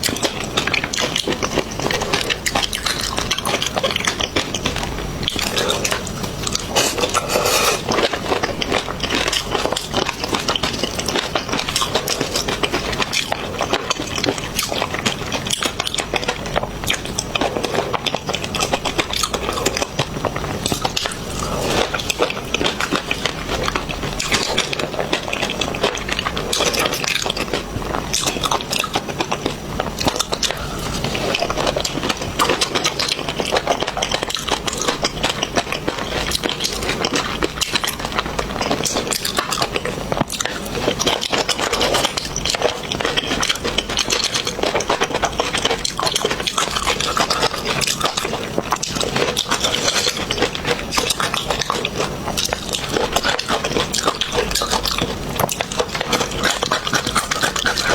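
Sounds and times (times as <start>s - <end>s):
people chewing crunchy seafood: 0.0s - 57.9s.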